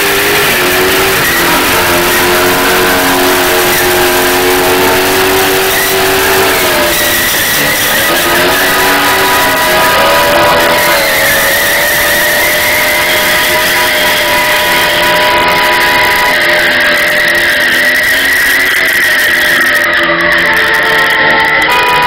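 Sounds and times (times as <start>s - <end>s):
engine at high revs: 0.0s - 22.0s
tyres squealing: 0.0s - 22.0s.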